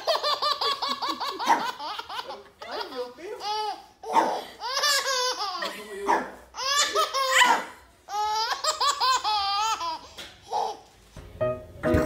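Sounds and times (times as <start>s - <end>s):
baby laughing: 0.0s - 10.9s.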